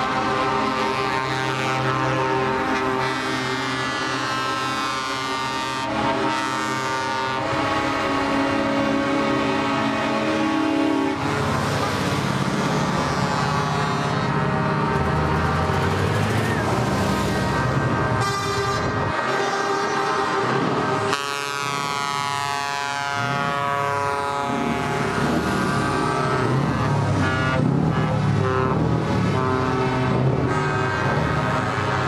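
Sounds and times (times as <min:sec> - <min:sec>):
truck air horn blasts: 0:00.0 - 0:12.0, 0:17.5 - 0:32.0
heavy truck engines running: 0:00.0 - 0:32.0.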